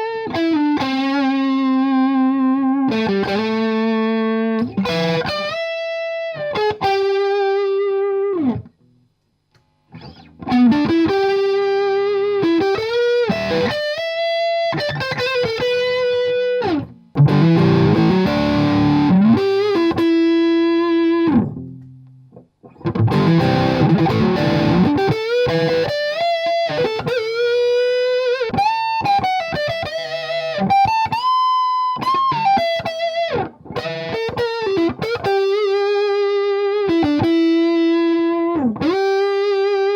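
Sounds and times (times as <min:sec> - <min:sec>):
distorted electric guitar lead: 0:00.0 - 0:08.7, 0:09.9 - 0:39.9
strummed guitar chords: 0:00.0 - 0:08.7, 0:10.0 - 0:39.9.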